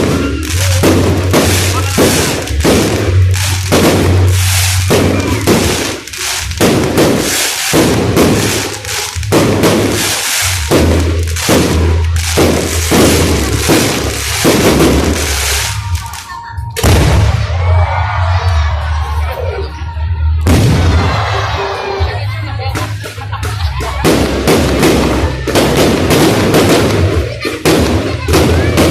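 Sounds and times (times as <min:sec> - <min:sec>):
fireworks bangs and crackles: 0:00.0 - 0:18.9, 0:20.4 - 0:28.9.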